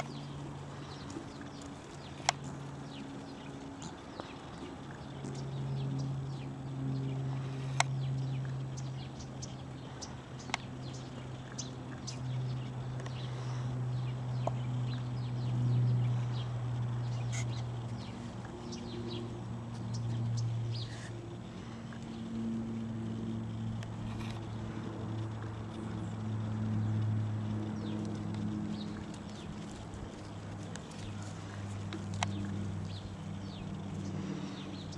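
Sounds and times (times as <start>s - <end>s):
motor humming: 0.0s - 34.9s.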